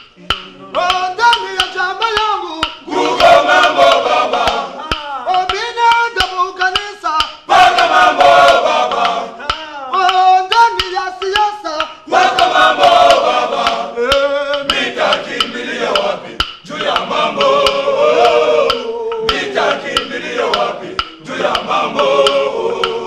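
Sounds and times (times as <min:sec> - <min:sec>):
male choir singing a cappella: 0:00.0 - 0:06.8, 0:07.4 - 0:23.0
hand claps: 0:00.0 - 0:23.0.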